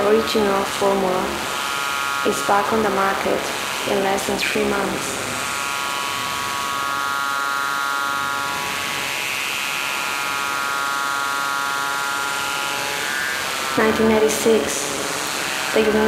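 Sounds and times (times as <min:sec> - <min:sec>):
buzzing electronic drone: 0:00.0 - 0:16.0.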